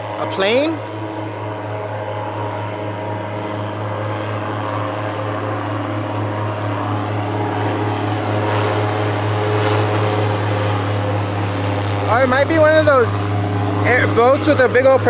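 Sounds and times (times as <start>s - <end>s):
airboat engine and propeller drone: 0.0s - 15.0s.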